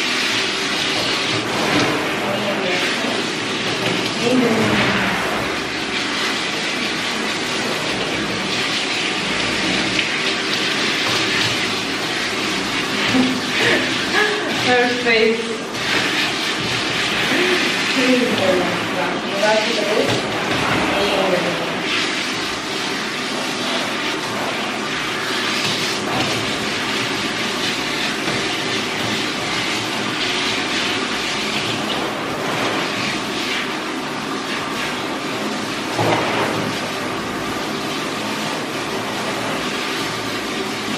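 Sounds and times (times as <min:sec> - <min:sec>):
shower sprayer hissing: 0:00.0 - 0:40.9
water splashing in metal tub: 0:00.0 - 0:40.9.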